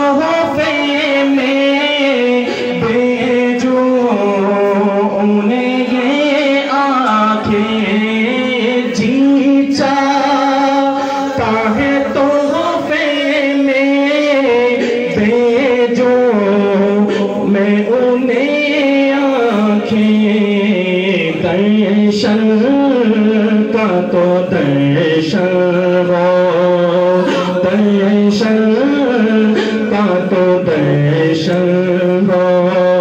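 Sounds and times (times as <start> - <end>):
man singing into a microphone: 0.0 - 33.0.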